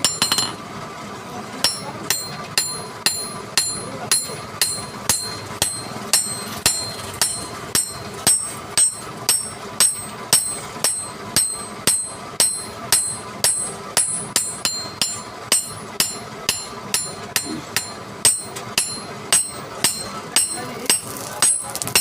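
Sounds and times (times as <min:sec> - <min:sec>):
hammer striking metal: 0:00.0 - 0:00.6, 0:01.6 - 0:22.0.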